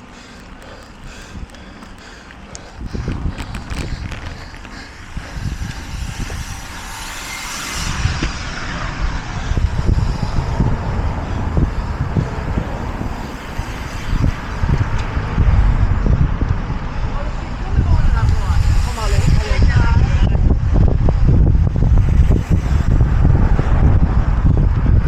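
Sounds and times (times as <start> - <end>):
low rumble with thumps: 0.0 - 25.0
vehicle passing close: 2.7 - 25.0.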